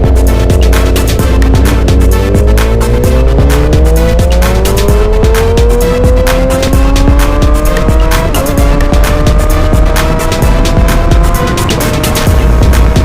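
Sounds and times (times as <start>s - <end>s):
motorcycle engine accelerating: 0.0s - 13.0s
music with heavy bass beat: 0.0s - 13.0s.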